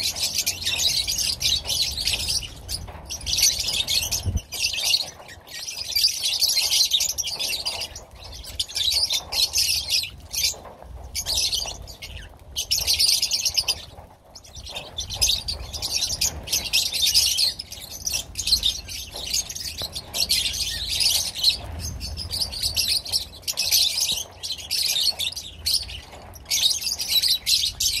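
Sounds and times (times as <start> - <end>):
lovebirds chattering: 0.0 - 28.0.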